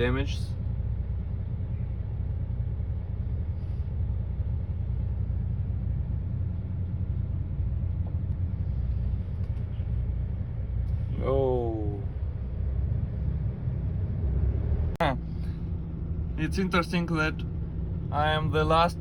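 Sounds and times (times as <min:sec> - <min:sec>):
truck diesel engine low rumble: 0:00.0 - 0:19.0.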